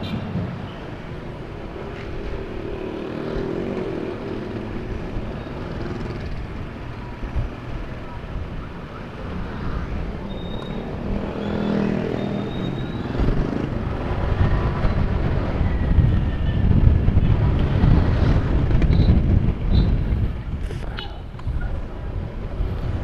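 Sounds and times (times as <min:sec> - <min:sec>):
passing traffic: 0:00.0 - 0:23.0
wind rumbling on microphone: 0:00.0 - 0:23.0.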